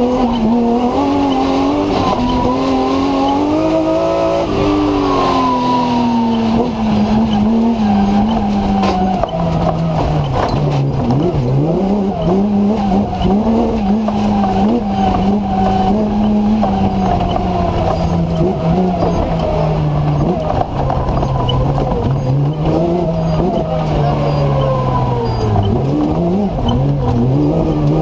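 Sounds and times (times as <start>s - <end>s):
racing car engine revving: 0.0s - 28.0s.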